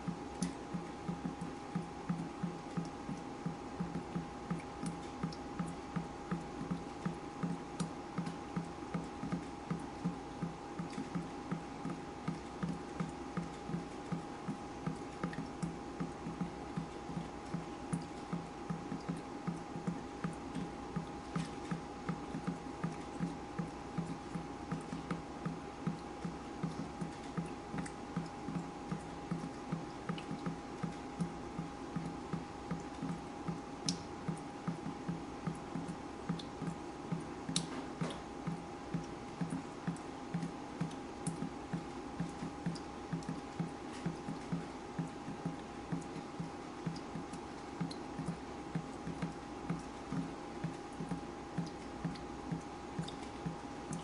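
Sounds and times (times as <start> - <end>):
water dripping: 0.1 - 54.0.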